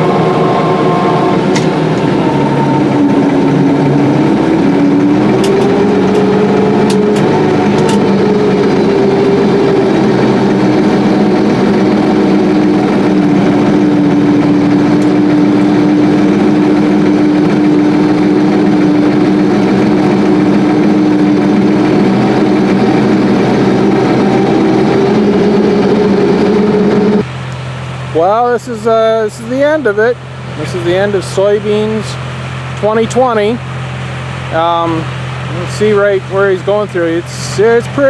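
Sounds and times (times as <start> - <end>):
combine harvester drone: 0.0 - 38.0.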